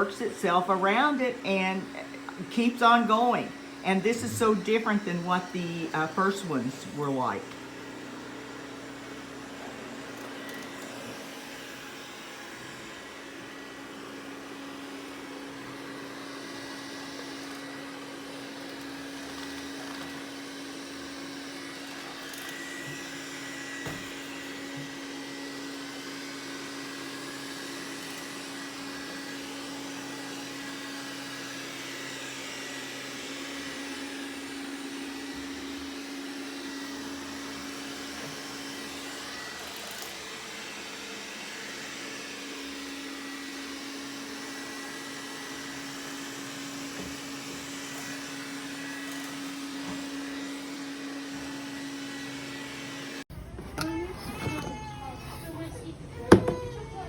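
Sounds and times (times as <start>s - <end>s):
robot vacuum running: 0.0s - 53.2s.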